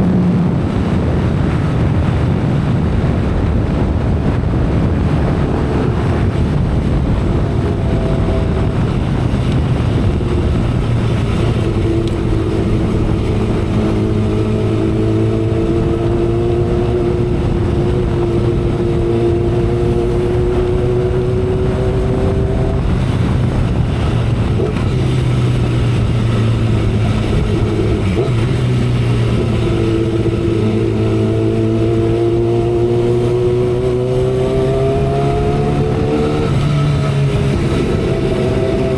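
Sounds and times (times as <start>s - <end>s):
wind rush on microphone: 0.0s - 38.9s
motorcycle engine pulling: 5.5s - 38.9s.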